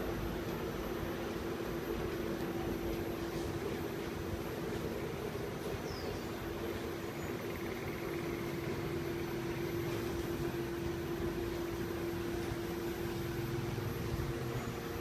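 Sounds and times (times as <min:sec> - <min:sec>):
washing machine humming and rushing: 0:00.0 - 0:15.0.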